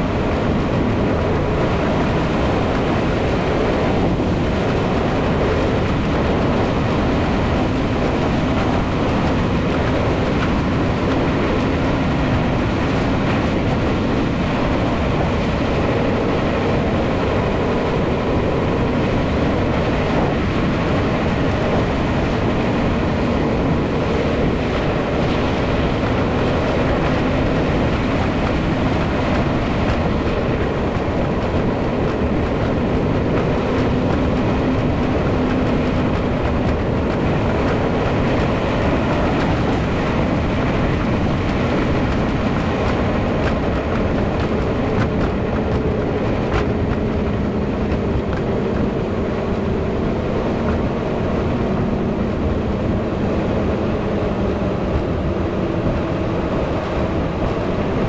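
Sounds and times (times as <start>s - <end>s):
vehicle road noise: 0.0s - 58.0s.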